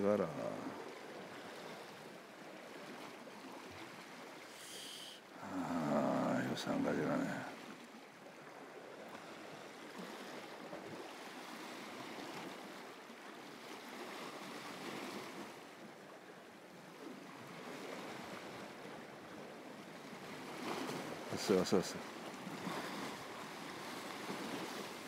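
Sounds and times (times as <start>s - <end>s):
sea waves washing on shore: 0.0s - 25.0s.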